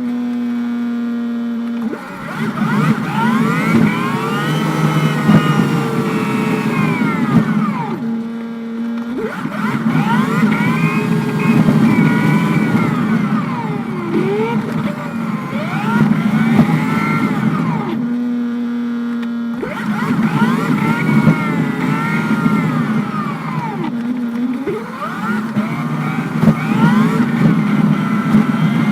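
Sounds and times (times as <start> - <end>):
bus engine whining: 0.0 - 28.9.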